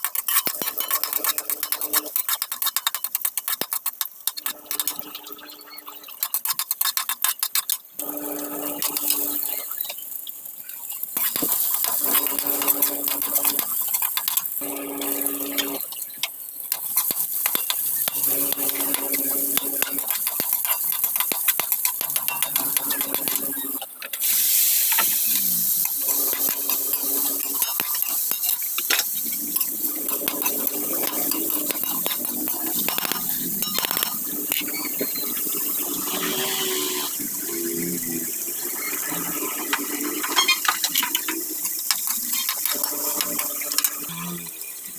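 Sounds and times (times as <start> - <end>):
metal spatula scraping a wok: 0.0 - 5.1, 6.0 - 10.1, 10.8 - 37.2, 40.3 - 44.5
light sizzle: 0.0 - 44.9.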